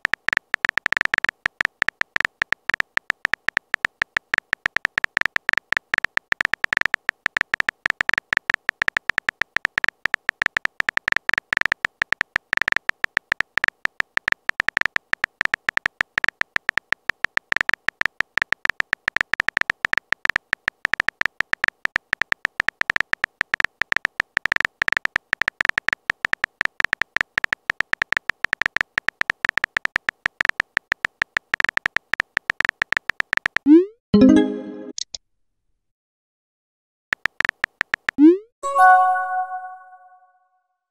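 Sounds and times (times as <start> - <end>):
keyboard typing clicks: 0.0 - 35.2, 37.2 - 40.2.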